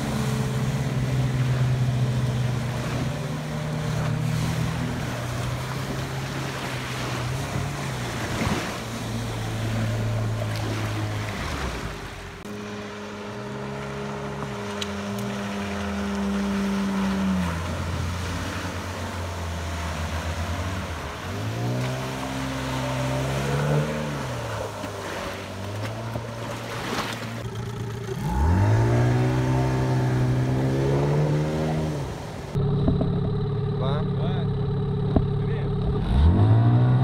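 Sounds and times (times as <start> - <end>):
outboard motors running: 0.0 - 37.0.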